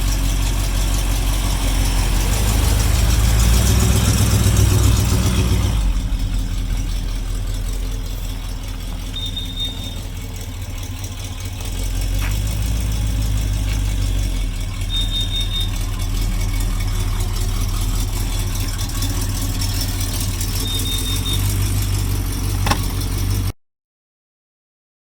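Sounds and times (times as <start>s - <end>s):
car engine idling: 0.0s - 23.6s.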